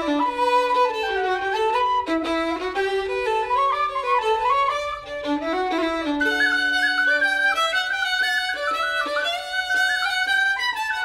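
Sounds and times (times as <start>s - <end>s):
fiddle tune: 0.0s - 11.0s.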